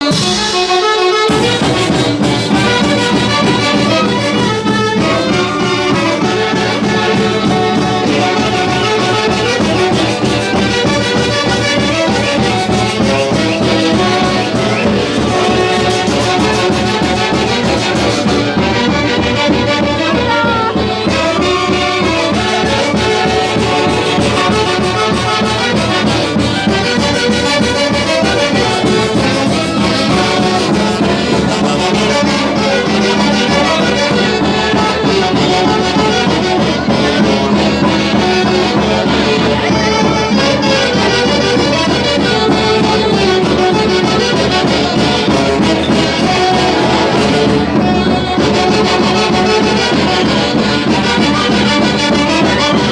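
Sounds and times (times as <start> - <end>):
folk orchestra with horns: 0.0 - 52.9.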